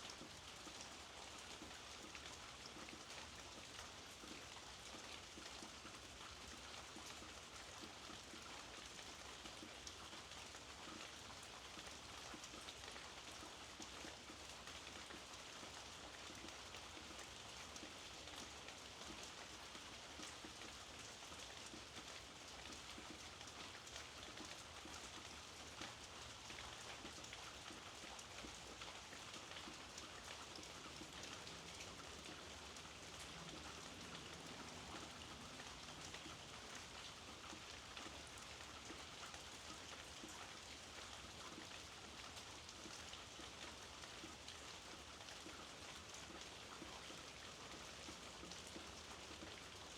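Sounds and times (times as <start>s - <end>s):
light rain falling: 0.0s - 49.9s.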